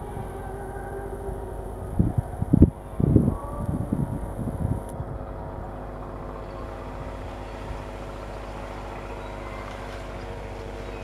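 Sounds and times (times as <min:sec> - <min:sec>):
electric train humming: 0:00.0 - 0:11.0
train low rumble: 0:00.0 - 0:11.0.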